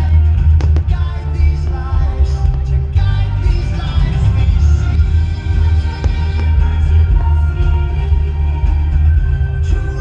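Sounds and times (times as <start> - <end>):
film music with singing and bass: 0.0 - 10.0.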